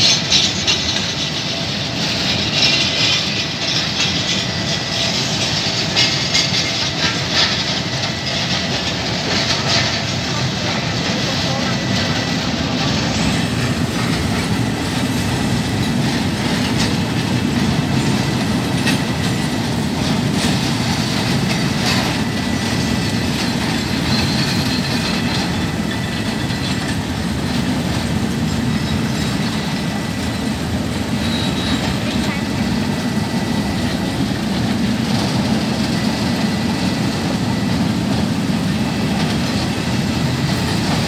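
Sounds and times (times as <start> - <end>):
train wheels rumbling on rail: 0.0 - 41.0
wheels clacking over rail joints: 0.0 - 41.0.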